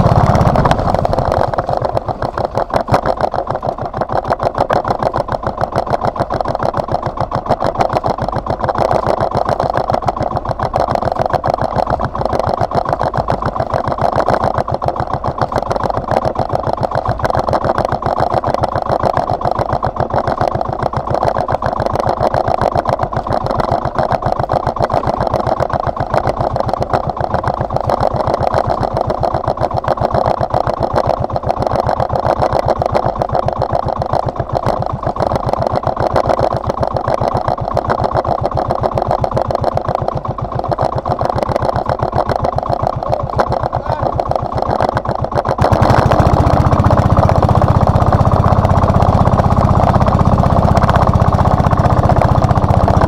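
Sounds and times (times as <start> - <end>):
boat engine running: 0.0 - 53.0.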